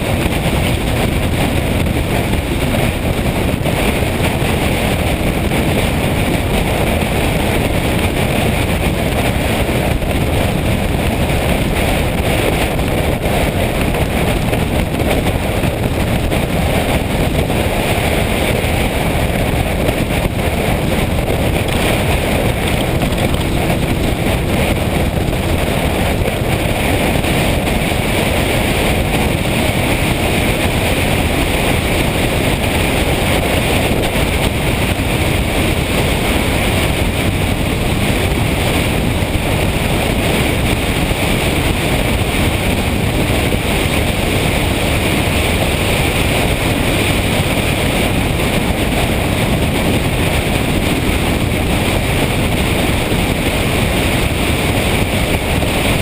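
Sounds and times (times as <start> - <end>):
motorcycle engine: 0.0 - 56.0
road noise: 0.0 - 56.0
wind rushing over microphone: 0.0 - 56.0.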